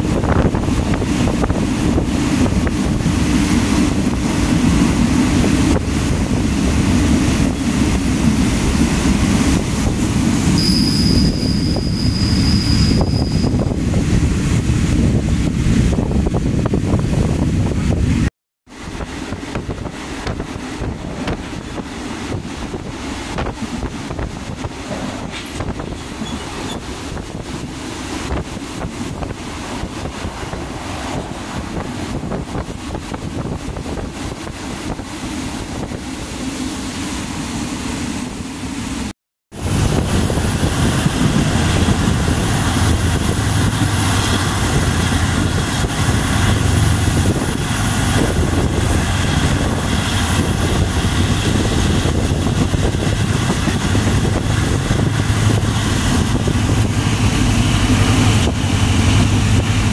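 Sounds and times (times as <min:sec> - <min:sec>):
wind rushing over microphone: 0:00.0 - 0:36.9, 0:38.2 - 0:59.9
train running along track: 0:00.0 - 0:59.9.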